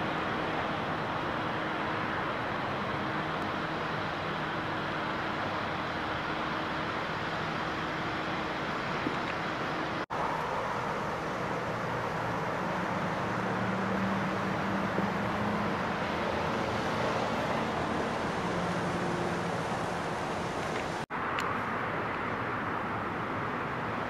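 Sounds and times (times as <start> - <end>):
freeway traffic rushing: 0.0 - 24.0
low engine hum: 0.0 - 24.0.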